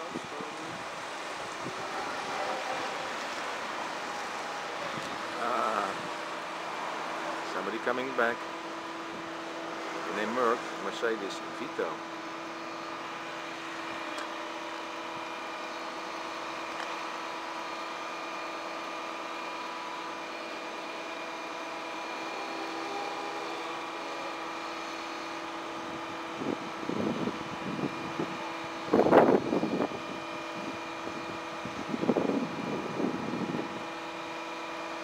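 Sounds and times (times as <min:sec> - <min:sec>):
diesel engine humming: 0:00.0 - 0:35.0.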